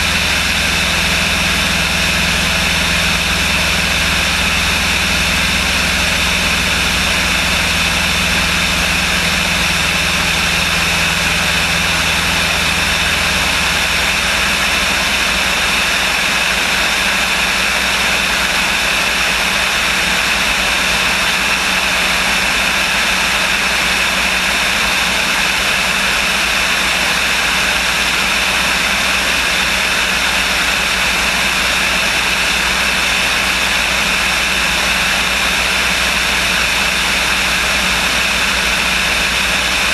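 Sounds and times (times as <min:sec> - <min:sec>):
propeller airplane engine drone: 0:00.0 - 0:39.9.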